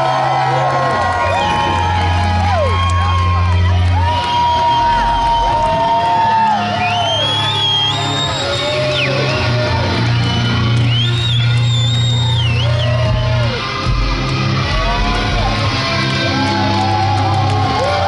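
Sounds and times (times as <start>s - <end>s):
crowd whooping and shouting: 0.0s - 18.0s.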